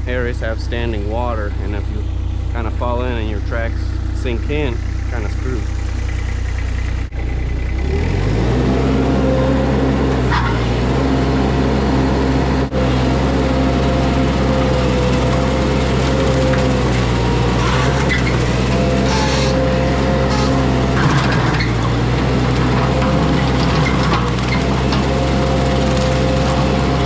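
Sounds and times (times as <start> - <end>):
skid steer engine revving: 0.0 - 27.0.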